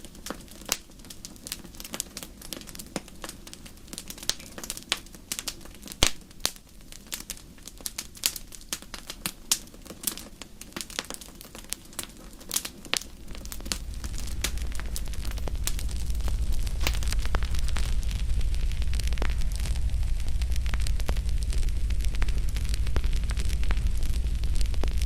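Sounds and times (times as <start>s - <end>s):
campfire crackling and popping: 0.0s - 25.0s
low rumble of fire: 0.0s - 25.0s.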